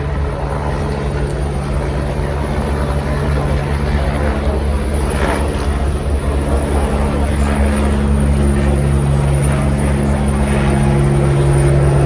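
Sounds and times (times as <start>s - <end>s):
constant noise: 0.0s - 12.0s
low engine drone: 0.0s - 12.0s.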